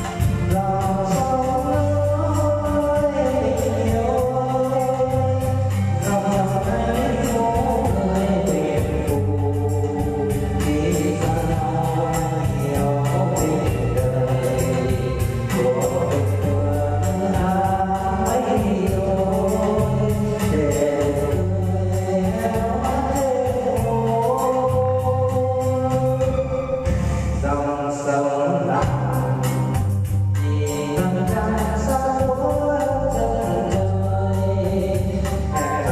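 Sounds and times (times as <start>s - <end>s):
drum machine beat: 0.0s - 27.4s, 28.8s - 35.9s
bass line: 0.0s - 35.9s
person singing: 0.0s - 35.9s.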